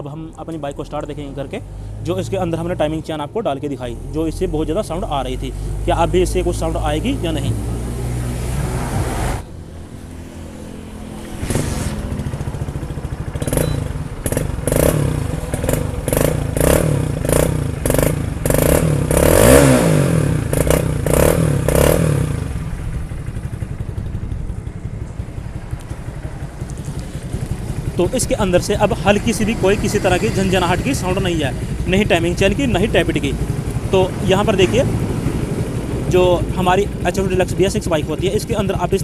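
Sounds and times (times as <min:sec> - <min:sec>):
motorcycle engine revving and idling: 0:00.0 - 0:39.0.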